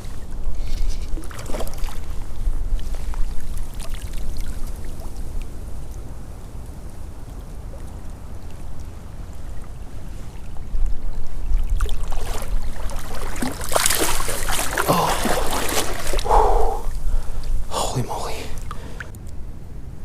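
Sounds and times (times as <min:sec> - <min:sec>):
creek water rumbling: 0:00.0 - 0:19.2.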